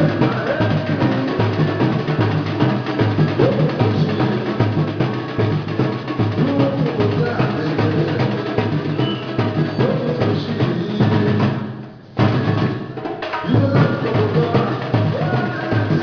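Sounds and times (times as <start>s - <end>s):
music: 0.0s - 16.0s
percussion group drumming: 0.0s - 16.0s.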